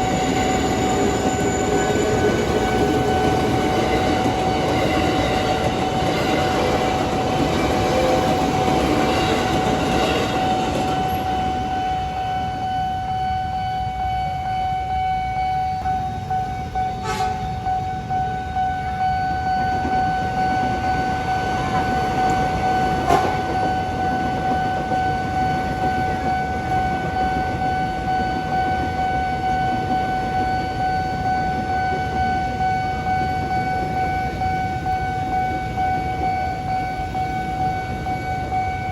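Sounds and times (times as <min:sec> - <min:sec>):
level crossing warning alarm: 0:00.0 - 0:38.9
train running past: 0:00.0 - 0:38.9.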